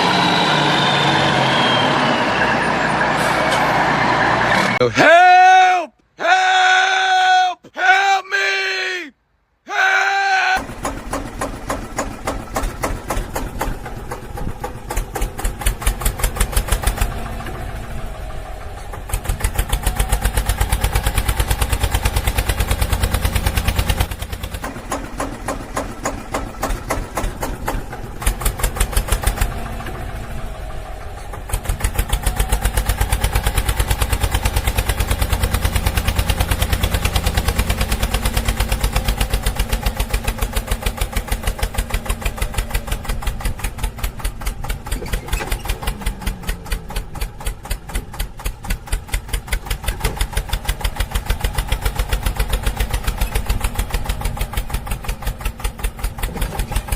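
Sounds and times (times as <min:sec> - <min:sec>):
truck engine chugging: 0:00.0 - 0:05.2, 0:10.6 - 0:56.9.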